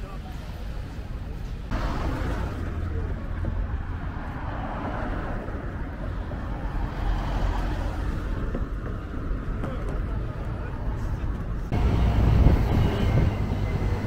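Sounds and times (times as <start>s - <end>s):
city ambience: 0.0s - 14.0s
road traffic rumble: 0.0s - 14.0s.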